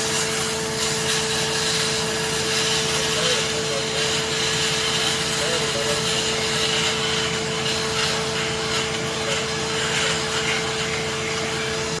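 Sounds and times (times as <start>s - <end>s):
power equipment running with whine: 0.0s - 12.0s.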